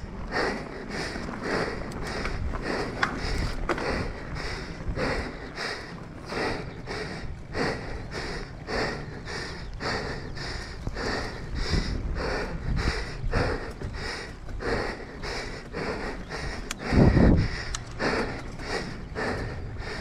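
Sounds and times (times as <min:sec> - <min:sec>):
person breathing hard: 0:00.0 - 0:20.0
sharp bike clicks: 0:00.3 - 0:07.4, 0:08.3 - 0:20.0.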